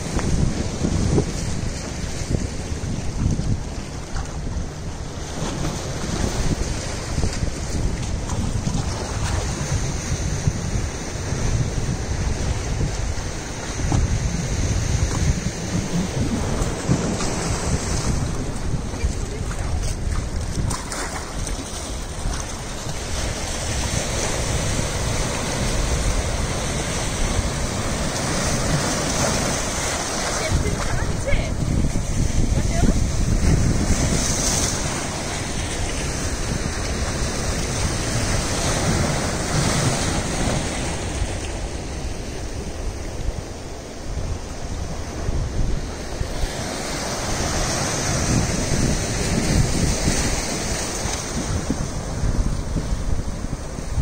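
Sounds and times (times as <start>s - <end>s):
sea surf breaking on concrete: 0.0s - 54.0s
wind rumbling on microphone: 0.0s - 54.0s.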